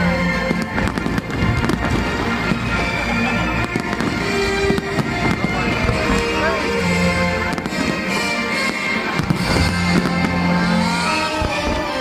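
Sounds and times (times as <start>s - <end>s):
fireworks bursting: 0.0s - 12.0s
music playing: 0.0s - 12.0s.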